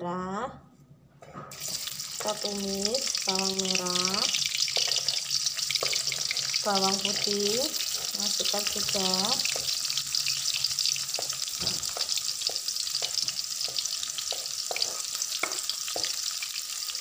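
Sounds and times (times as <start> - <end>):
shallots frying in hot oil: 1.5 - 17.0.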